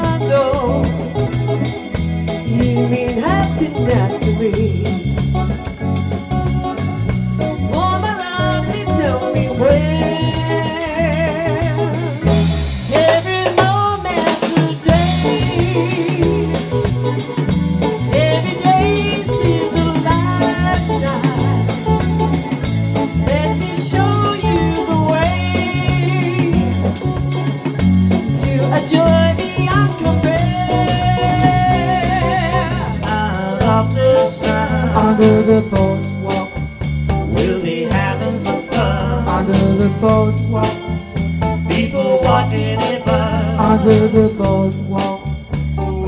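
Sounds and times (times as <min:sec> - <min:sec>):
live pop band playing: 0:00.0 - 0:46.0.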